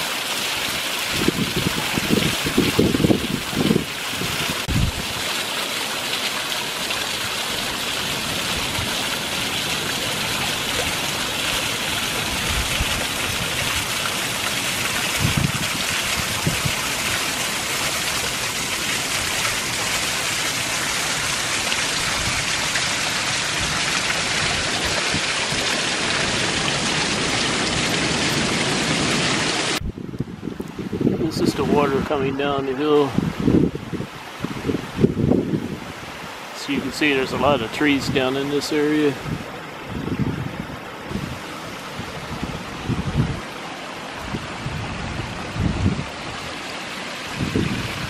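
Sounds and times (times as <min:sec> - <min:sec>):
water rushing over small falls: 0:00.0 - 0:29.8, 0:30.6 - 0:48.0.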